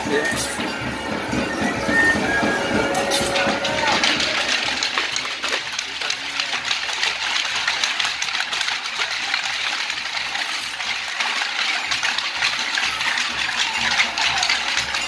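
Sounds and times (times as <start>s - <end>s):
costume bells jingling and rattling: 0.0s - 15.0s.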